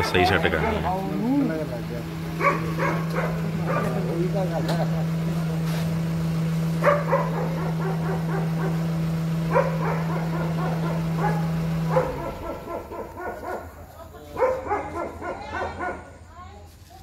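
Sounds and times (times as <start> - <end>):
dogs barking: 0.0 - 1.1, 1.8 - 5.2, 6.7 - 16.3
low motor hum: 0.0 - 16.1.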